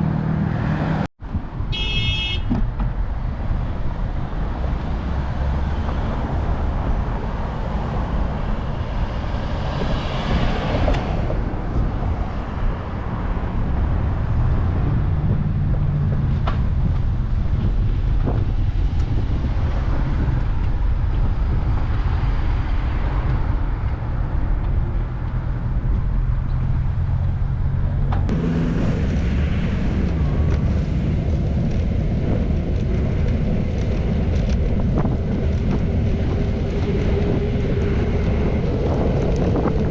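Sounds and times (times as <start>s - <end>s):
cars passing: 0.0s - 39.9s
wind on microphone: 0.0s - 39.9s.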